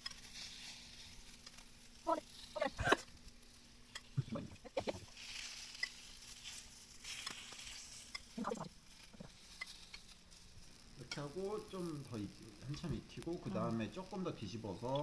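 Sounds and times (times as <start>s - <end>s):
batter sizzling in pan: 0.0s - 15.0s.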